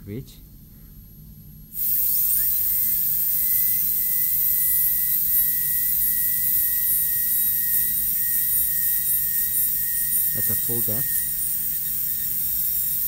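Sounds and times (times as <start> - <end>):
dental drill whining: 1.8 - 13.0.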